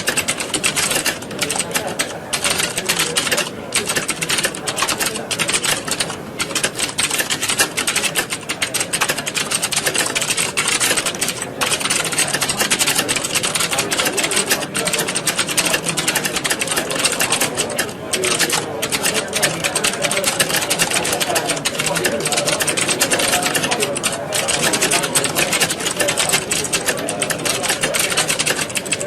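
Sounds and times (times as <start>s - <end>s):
many keyboards clattering: 0.0s - 29.0s.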